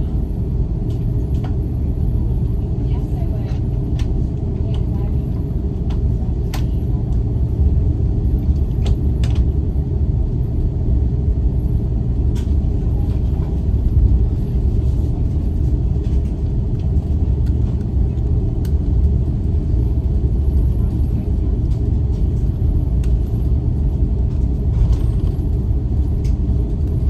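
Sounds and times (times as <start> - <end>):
low rumble of jet engines: 0.0 - 27.0.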